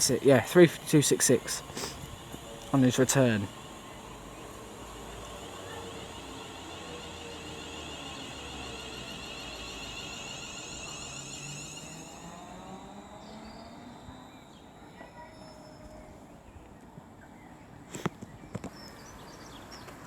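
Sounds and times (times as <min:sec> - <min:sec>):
background hiss: 0:00.0 - 0:16.2
electric train whining: 0:00.0 - 0:16.7.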